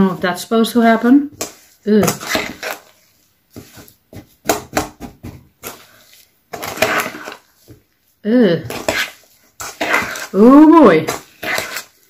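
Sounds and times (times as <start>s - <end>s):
stirring and scraping stiff mix: 0.0s - 12.0s.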